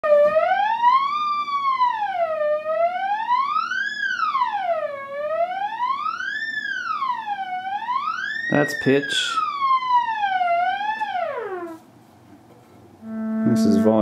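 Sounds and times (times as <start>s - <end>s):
theremin tone gliding in pitch: 0.0s - 11.8s, 13.0s - 14.0s.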